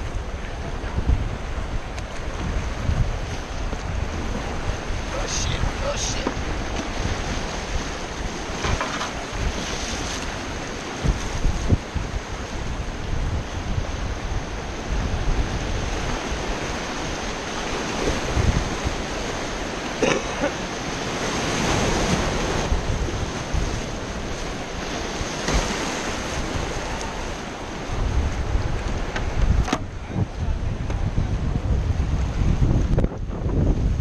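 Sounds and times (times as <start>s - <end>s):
wind buffeting microphone: 0.0s - 19.9s, 20.5s - 34.0s
whitewater rushing and splashing: 0.0s - 31.2s.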